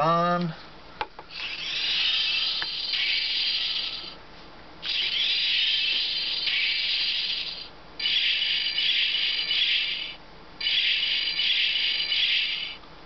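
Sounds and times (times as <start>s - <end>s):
toy electronic hissing noise: 1.3s - 4.2s, 4.8s - 12.8s.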